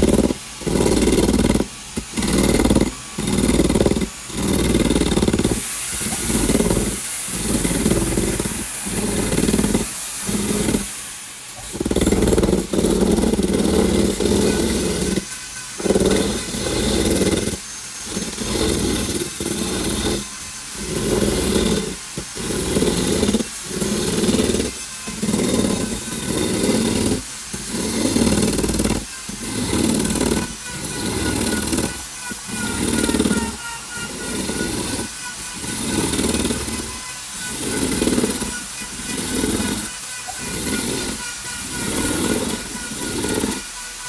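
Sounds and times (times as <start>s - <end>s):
woodworking tool rasping wood: 0.0s - 44.0s.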